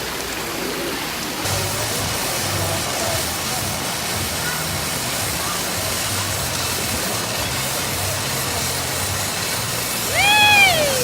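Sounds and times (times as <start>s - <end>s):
rushing and splashing water: 0.0s - 11.0s.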